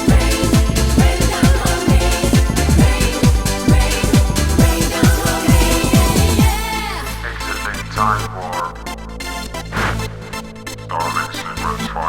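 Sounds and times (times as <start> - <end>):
eurodance music: 0.0 - 12.0.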